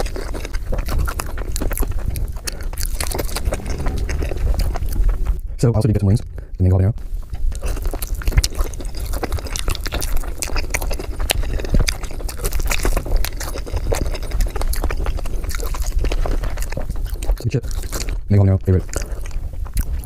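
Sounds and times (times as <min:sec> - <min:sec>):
close-miked chewing: 0:00.0 - 0:05.4, 0:07.2 - 0:20.0.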